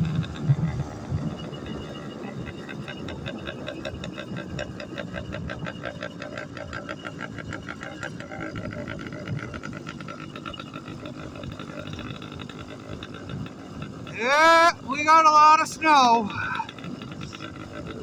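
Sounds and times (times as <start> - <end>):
two-stroke engine running: 0.0 - 18.0.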